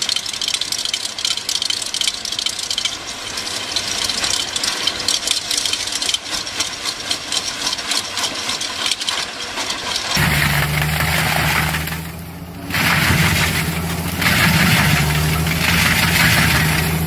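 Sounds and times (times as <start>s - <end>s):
heavy machine running under load: 0.0s - 17.0s
wood being shredded: 0.0s - 17.0s.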